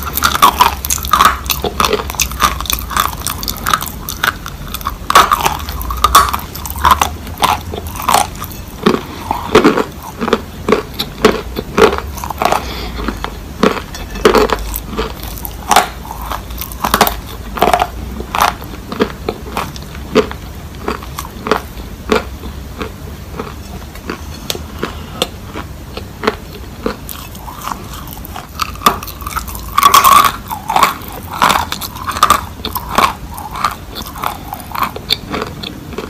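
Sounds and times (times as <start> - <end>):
chewing crunchy clay: 0.0 - 36.0.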